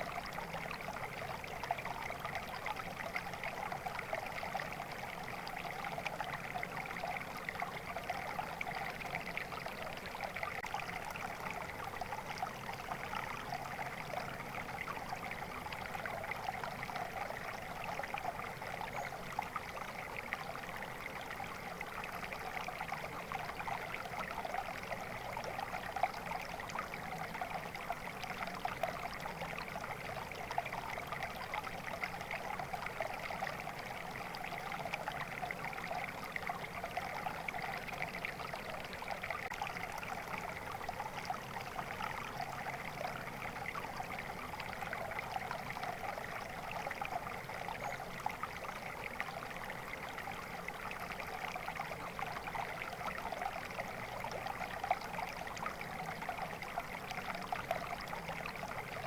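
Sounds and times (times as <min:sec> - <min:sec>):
flowing water rushing: 0:06.4 - 0:59.0.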